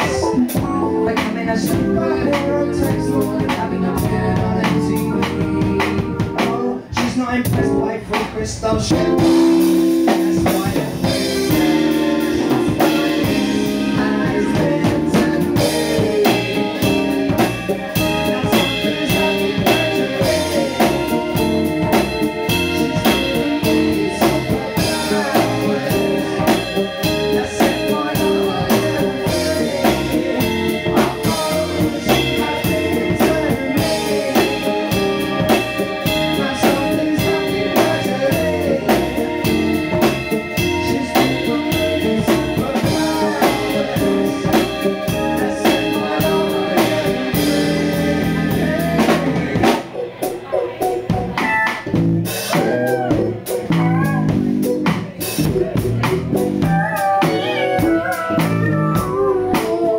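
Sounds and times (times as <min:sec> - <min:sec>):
man singing: 0:00.0 - 0:49.8, 0:51.6 - 0:59.9
drum kit beat: 0:00.0 - 0:59.9
keyboard: 0:00.0 - 0:59.9
electric guitar: 0:07.5 - 0:59.9.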